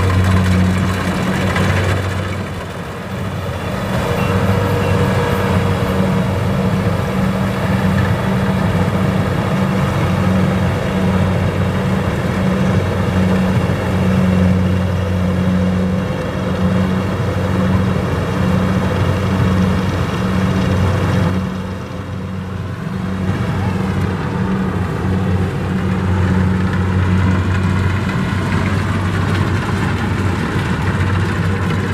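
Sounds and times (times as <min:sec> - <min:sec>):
diesel engine running steadily: 0:00.0 - 0:31.9.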